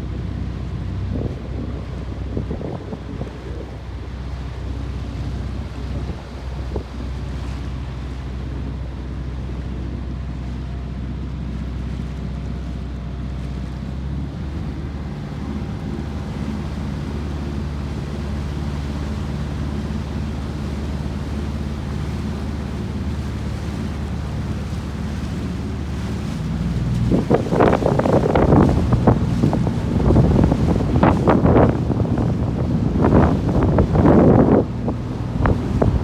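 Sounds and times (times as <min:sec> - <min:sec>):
motorboat engine humming: 0:00.0 - 0:36.0
wind and water rushing: 0:00.0 - 0:36.0.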